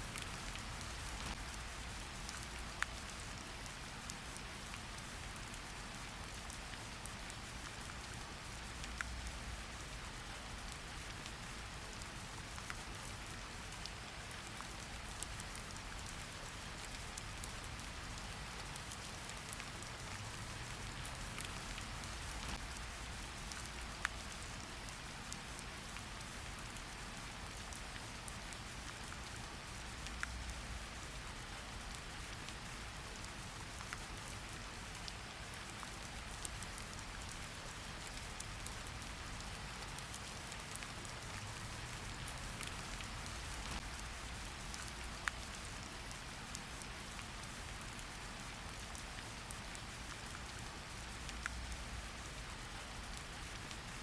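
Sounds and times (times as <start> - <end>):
steady rain hiss: 0.0 - 54.0
raindrop ticks: 0.1 - 3.6, 5.6 - 9.8, 10.6 - 53.9.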